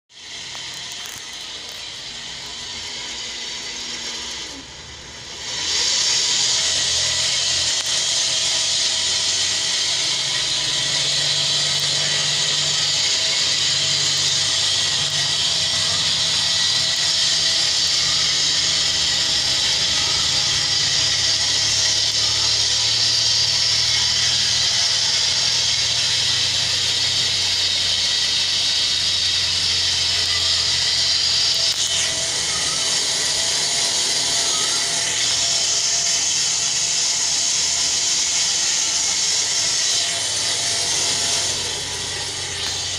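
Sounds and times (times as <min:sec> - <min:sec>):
electric motor whirring: 0:00.1 - 0:42.9.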